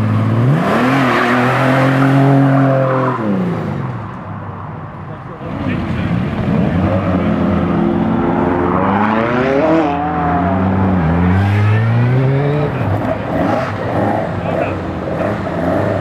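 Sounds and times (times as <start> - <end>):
car engine revving hard: 0.0 - 4.1, 5.4 - 16.0.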